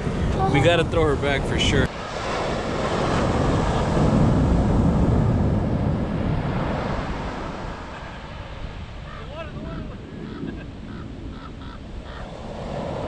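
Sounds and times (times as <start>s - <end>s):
ocean wave breaking: 0.0s - 13.0s
wind buffeting microphone: 0.0s - 13.0s.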